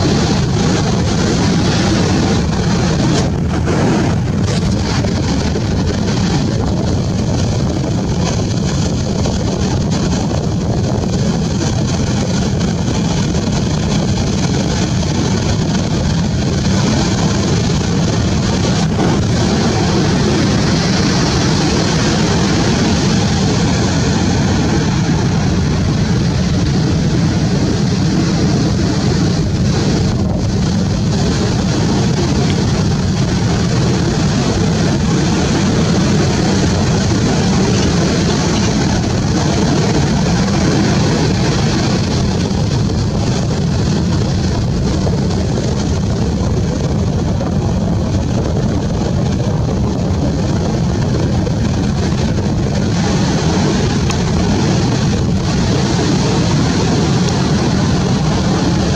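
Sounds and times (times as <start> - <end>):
deep roar of beach surf: 0.0 - 58.9.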